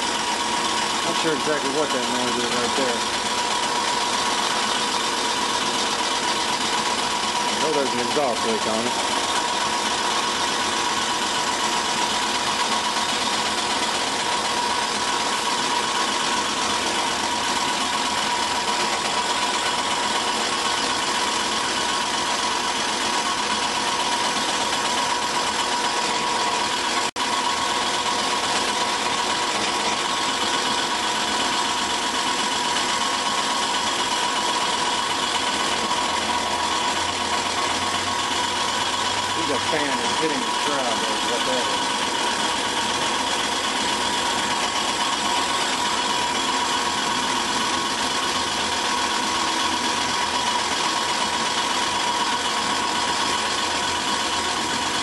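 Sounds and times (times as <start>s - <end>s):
car engine idling: 0.0s - 55.0s
cooling fan rubbing whine: 0.0s - 55.0s.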